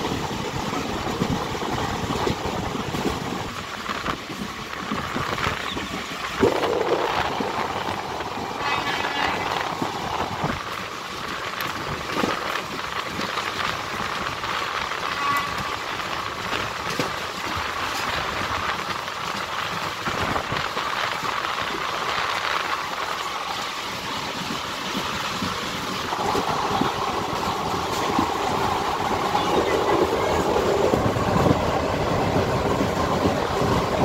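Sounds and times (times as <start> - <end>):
train rumble and rush: 0.0 - 34.0
wheels clattering over rail joints: 0.0 - 34.0.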